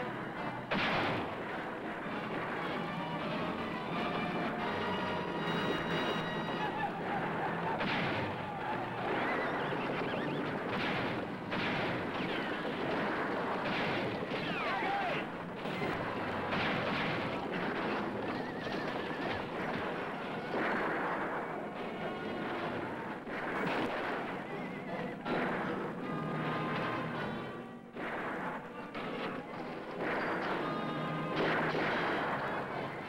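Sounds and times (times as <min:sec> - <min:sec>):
rifle shots: 0:00.1 - 0:04.7, 0:05.4 - 0:33.0.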